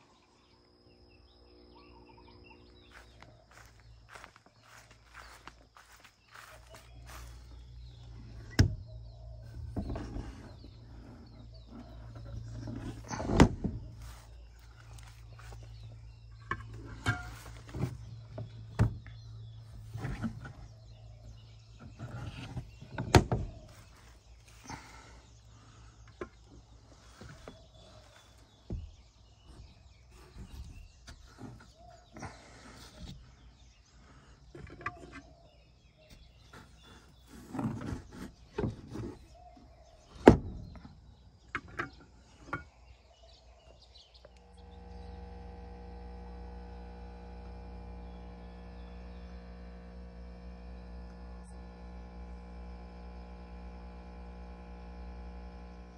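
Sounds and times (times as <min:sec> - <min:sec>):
electrical hum: 0:00.0 - 0:55.9.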